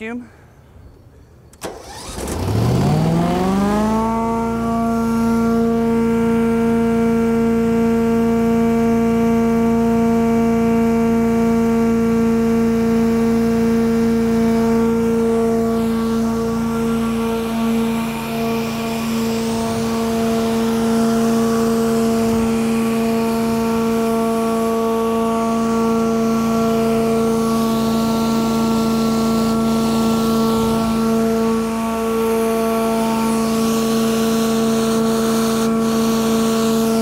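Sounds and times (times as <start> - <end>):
vacuum machine hum and whine: 1.5 - 37.0.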